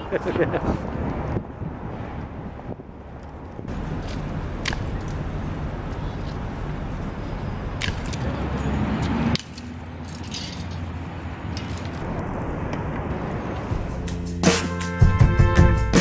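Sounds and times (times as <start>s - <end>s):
city traffic: 0.0s - 16.0s.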